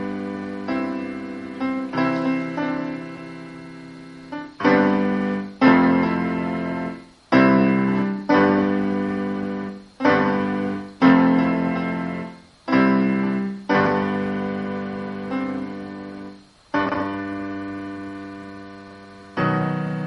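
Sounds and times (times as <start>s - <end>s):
piano block chords: 0.0s - 20.0s.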